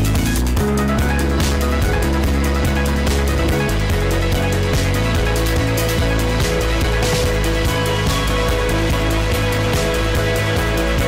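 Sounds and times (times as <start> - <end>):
background music with low held notes: 0.0 - 11.0.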